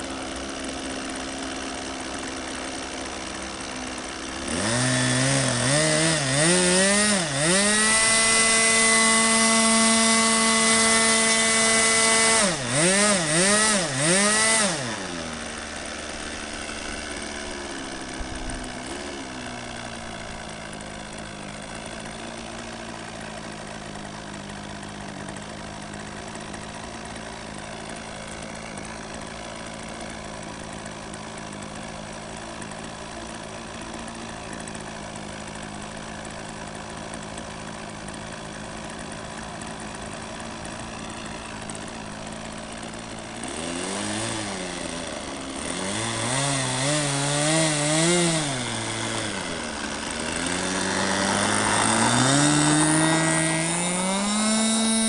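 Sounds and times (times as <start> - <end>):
model airplane engine revving: 0.0 - 55.0.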